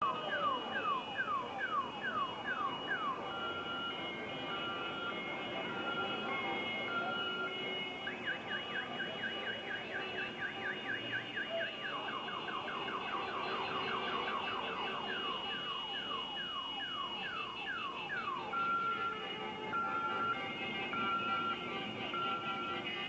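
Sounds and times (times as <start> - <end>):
electronic siren: 0.0 - 23.0.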